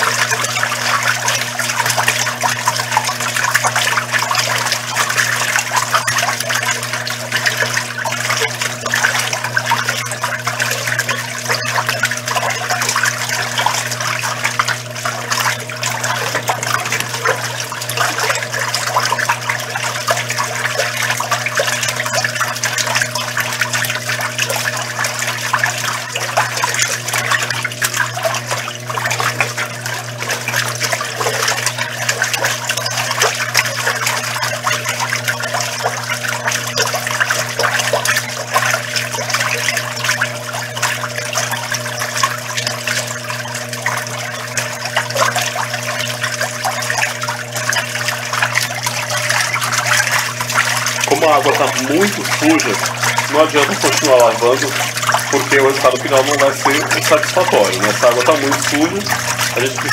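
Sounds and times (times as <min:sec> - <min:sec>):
washing machine motor hum: 0:00.0 - 0:59.9
water sloshing in washing machine: 0:00.0 - 0:59.9.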